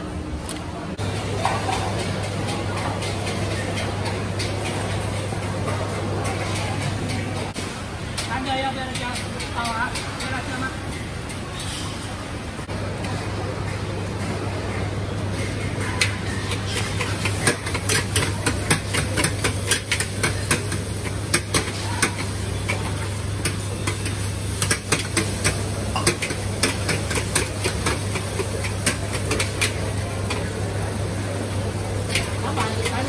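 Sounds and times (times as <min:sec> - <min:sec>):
kitchen clanks and clicks: 0:00.5 - 0:12.0, 0:13.0 - 0:30.9, 0:32.0 - 0:33.0.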